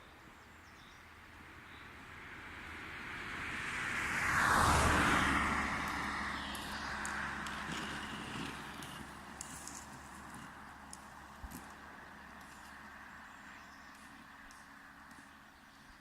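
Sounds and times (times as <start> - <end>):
vehicle driving past: 1.9 - 15.9.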